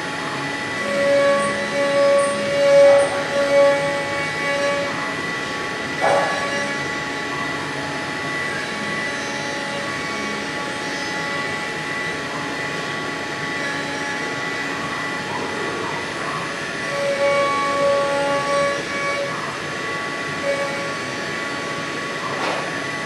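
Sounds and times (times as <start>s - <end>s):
milling machine spindle whine: 0.0s - 23.0s.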